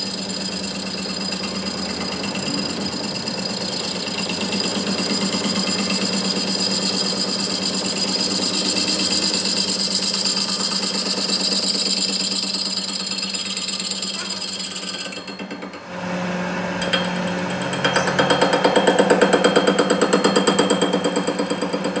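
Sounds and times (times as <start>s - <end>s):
workshop machine humming and whining: 0.0s - 22.0s.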